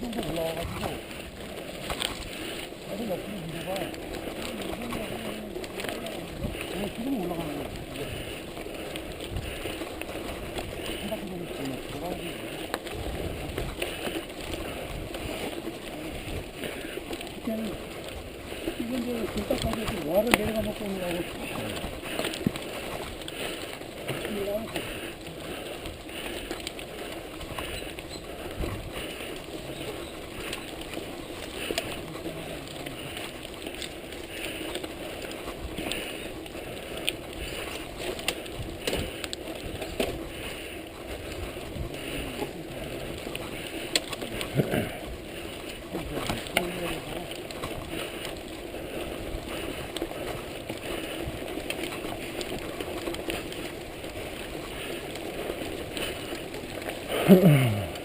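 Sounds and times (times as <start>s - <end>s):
bicycle tyre and wind noise: 0.0s - 58.0s.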